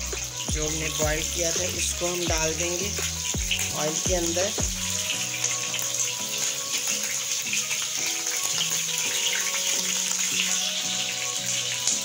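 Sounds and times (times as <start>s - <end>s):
background music: 0.0s - 12.0s
chicken sizzling in oil: 0.0s - 12.0s.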